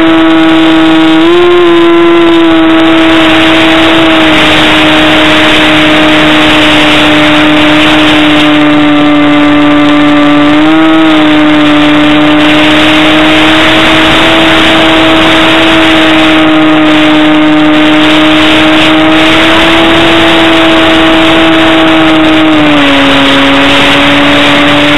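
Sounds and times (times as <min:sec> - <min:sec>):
model plane motor droning: 0:00.0 - 0:24.9
rushing wind noise: 0:00.0 - 0:24.9.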